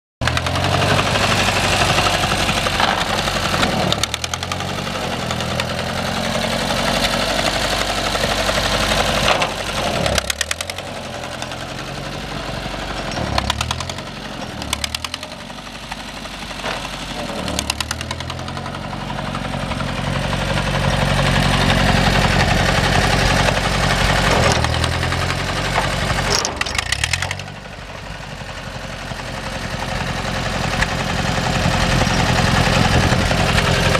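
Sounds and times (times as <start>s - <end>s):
tractor engine running: 0.2s - 33.9s.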